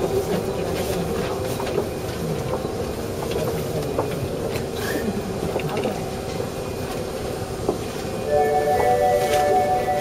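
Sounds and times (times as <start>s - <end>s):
train equipment hum: 0.0s - 10.0s.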